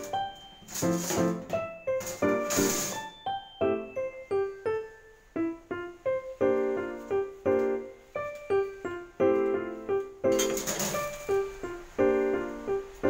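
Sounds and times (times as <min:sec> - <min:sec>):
light background music: 0:00.0 - 0:13.0.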